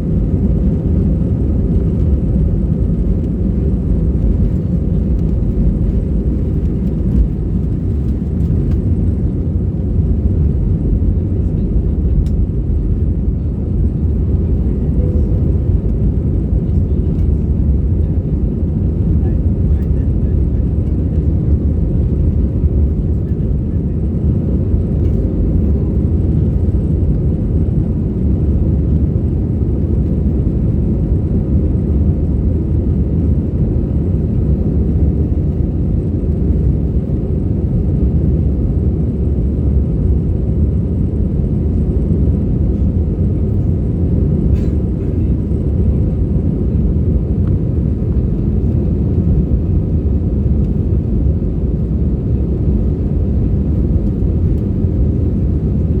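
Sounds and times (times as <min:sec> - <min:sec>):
jet engines low rumble: 0:00.0 - 0:56.0.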